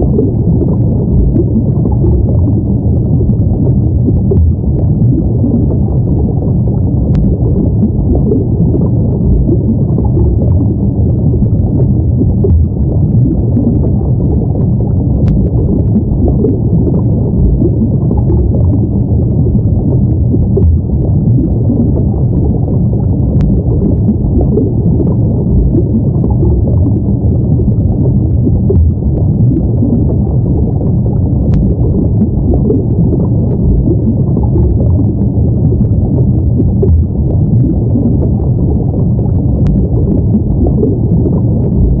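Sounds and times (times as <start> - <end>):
low underwater rumble: 0.0 - 42.0.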